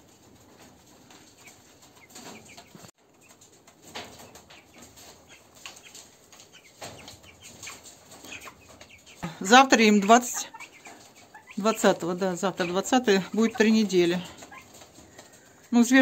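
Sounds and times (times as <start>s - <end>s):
chicks peeping softly: 0.1s - 16.0s.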